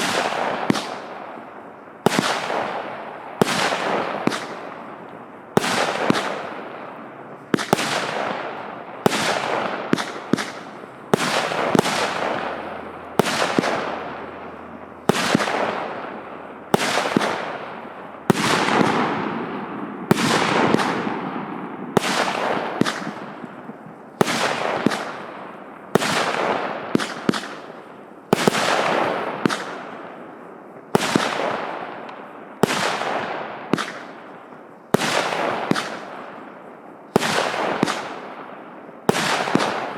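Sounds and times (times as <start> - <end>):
firework bangs with hiss: 0.0 - 39.9.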